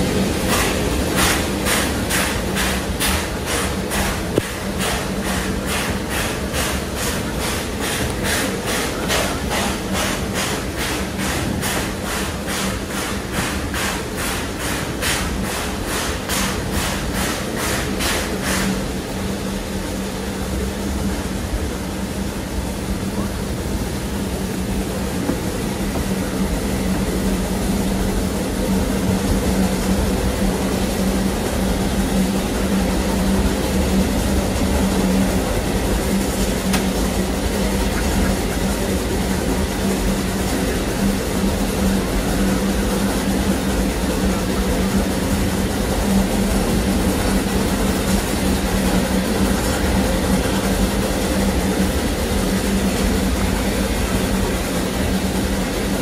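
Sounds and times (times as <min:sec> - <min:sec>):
steam train rumbling on track: 0:00.0 - 0:56.0.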